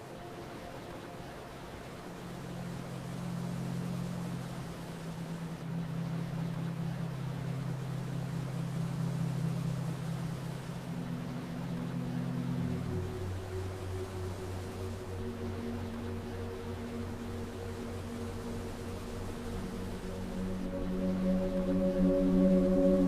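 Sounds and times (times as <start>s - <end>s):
soft ambient drone: 0.0s - 23.0s.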